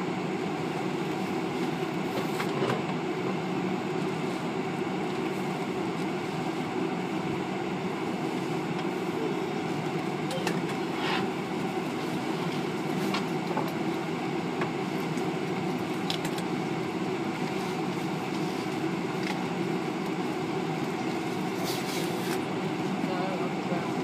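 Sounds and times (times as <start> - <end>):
low rumble of airport terminal: 0.0 - 24.0.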